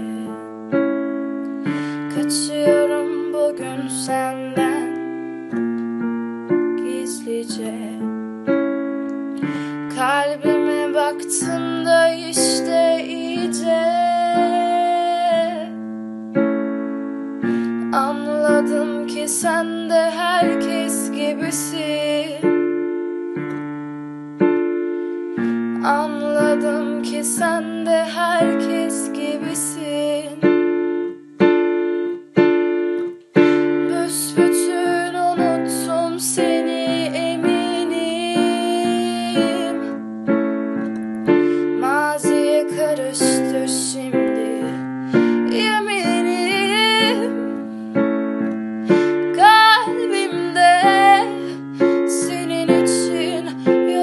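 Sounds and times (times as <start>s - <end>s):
woman singing wordlessly: 0.0s - 8.8s, 9.4s - 16.5s, 17.4s - 22.9s, 25.4s - 31.1s, 33.4s - 54.0s
piano playing slow song: 0.0s - 54.0s.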